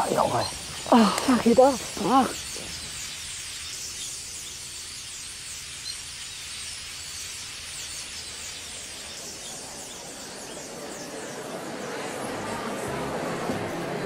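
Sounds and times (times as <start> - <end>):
wood fire hissing: 0.0 - 11.4.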